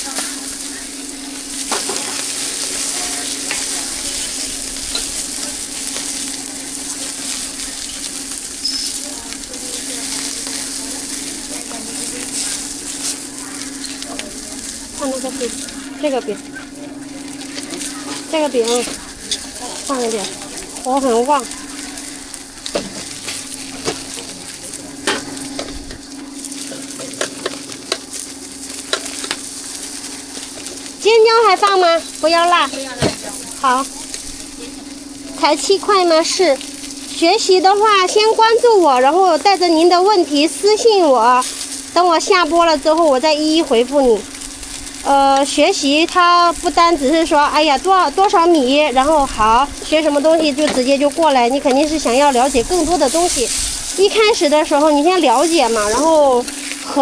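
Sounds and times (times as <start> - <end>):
flatbreads sizzling in a pan: 0.0 - 57.0.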